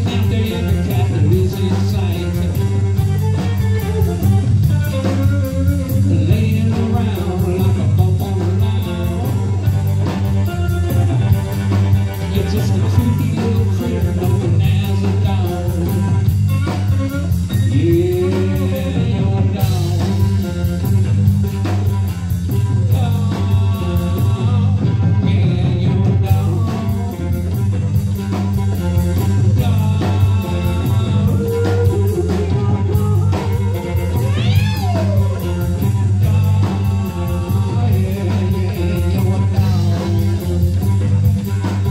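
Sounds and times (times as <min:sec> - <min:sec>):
live blues-rock band: 0:00.0 - 0:41.9.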